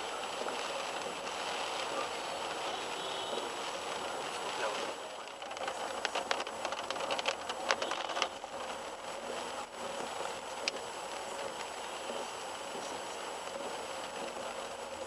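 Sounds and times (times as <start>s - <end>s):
car road and cabin noise: 0.0s - 15.0s.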